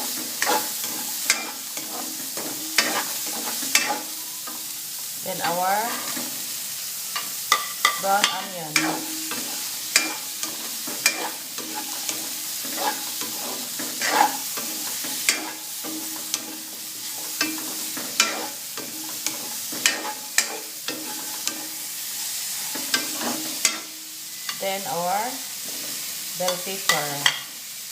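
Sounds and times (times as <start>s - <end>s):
spatula scraping a pan: 0.0s - 4.8s, 5.4s - 27.5s
food sizzling in hot oil: 0.0s - 27.9s.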